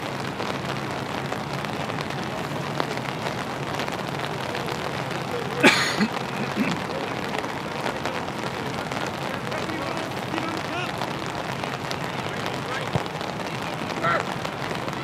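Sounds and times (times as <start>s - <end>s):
rain falling on an umbrella: 0.0s - 15.0s.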